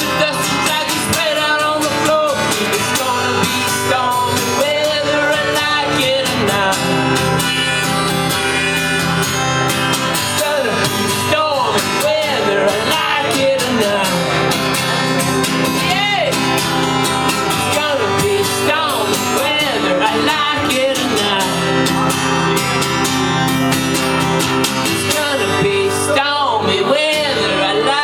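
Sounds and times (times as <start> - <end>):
person singing: 0.0 - 9.5, 10.2 - 22.3, 24.8 - 28.0
acoustic guitar strumming: 0.0 - 28.0.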